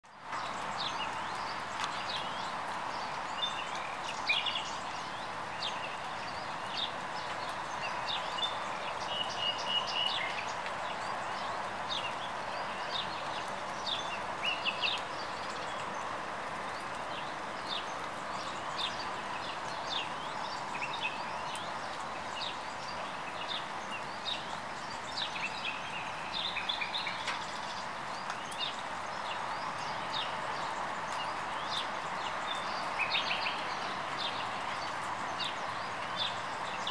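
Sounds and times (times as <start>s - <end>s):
steady rain falling: 0.0s - 36.9s
birds chirping and trilling: 0.3s - 16.1s, 16.7s - 36.9s.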